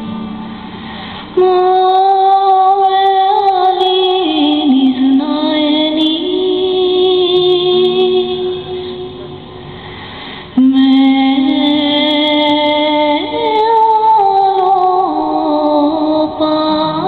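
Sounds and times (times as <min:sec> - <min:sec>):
woman singing a lullaby: 0:01.4 - 0:08.7, 0:10.6 - 0:17.0.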